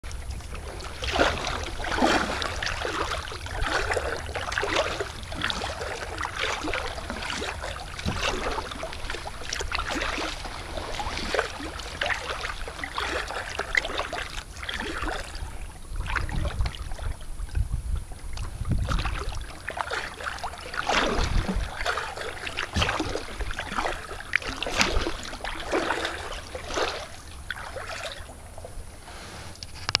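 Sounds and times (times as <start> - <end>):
wind rumble on microphone: 0.0 - 30.0
paddle strokes splashing and dripping: 0.1 - 29.7.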